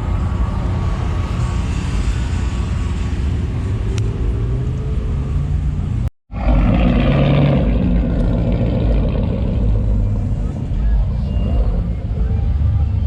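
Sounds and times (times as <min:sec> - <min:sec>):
truck engines rumbling and revving: 0:00.0 - 0:13.0.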